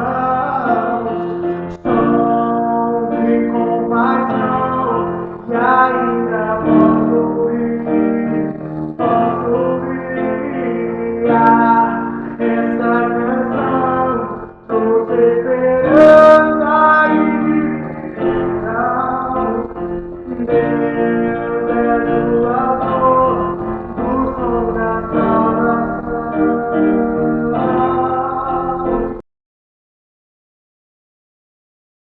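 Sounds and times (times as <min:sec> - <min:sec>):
instrumental accompaniment: 0:00.0 - 0:29.2
person singing slow song: 0:00.0 - 0:29.2.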